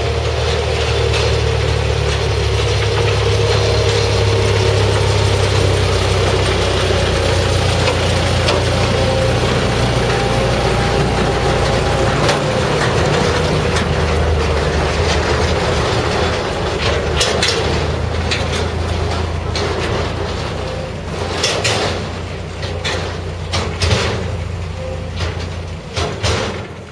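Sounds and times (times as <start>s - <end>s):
locomotive engine running: 0.0s - 26.9s
sharp clicks and knocks: 0.3s - 26.9s.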